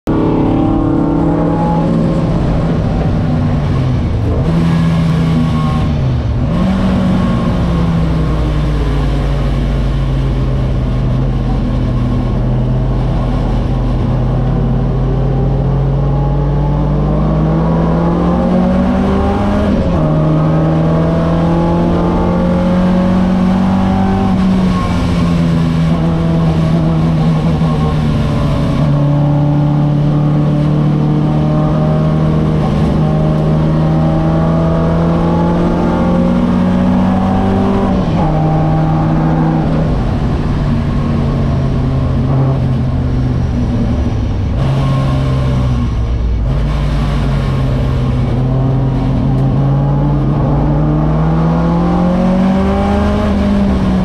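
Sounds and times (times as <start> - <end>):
race car engine from cabin: 0.0 - 54.0.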